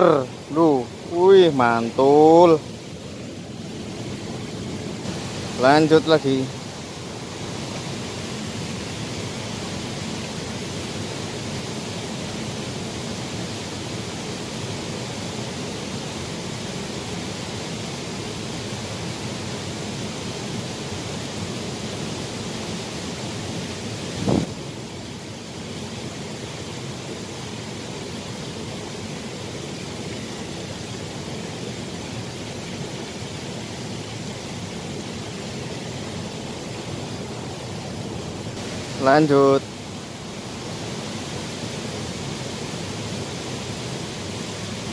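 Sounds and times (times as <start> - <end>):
shallow stream flowing: 0.0 - 44.9.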